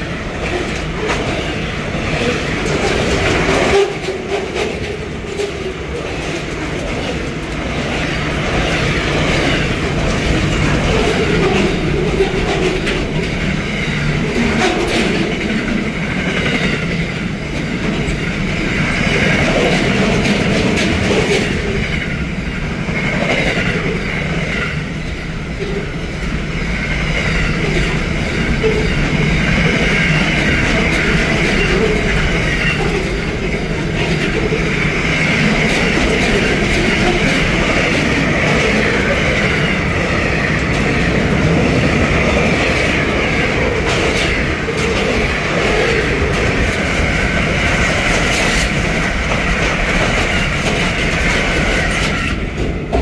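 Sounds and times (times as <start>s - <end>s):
steel wheels rumbling on rail: 0.0s - 53.0s.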